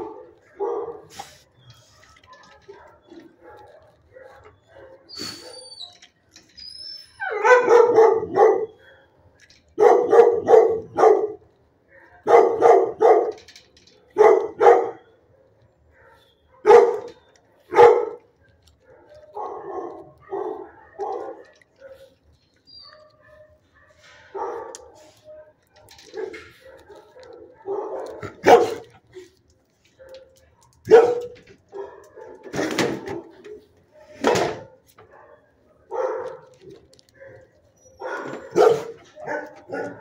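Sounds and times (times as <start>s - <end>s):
dog barking: 0.0s - 1.4s, 2.2s - 5.6s, 7.3s - 13.4s, 14.1s - 15.2s, 15.9s - 22.2s, 22.9s - 28.9s, 30.0s - 40.0s
faint dog barks: 0.0s - 5.7s, 7.3s - 13.4s, 14.1s - 22.2s, 22.9s - 29.3s, 29.9s - 40.0s.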